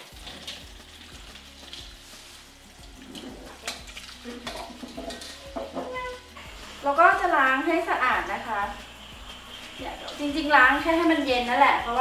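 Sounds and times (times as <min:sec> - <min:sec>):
tap water running: 0:00.0 - 0:12.0.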